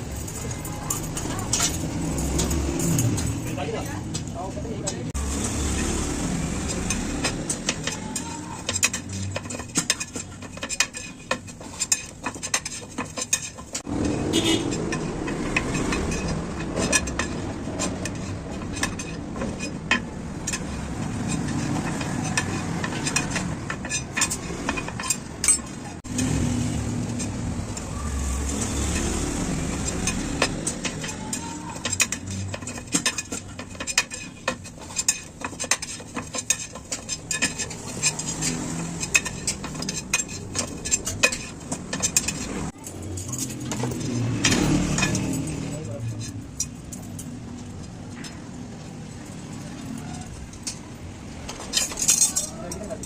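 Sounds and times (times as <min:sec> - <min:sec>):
metallic tool clinks on wheel: 0:00.0 - 0:05.0, 0:06.5 - 0:53.0
street noise: 0:00.0 - 0:53.0.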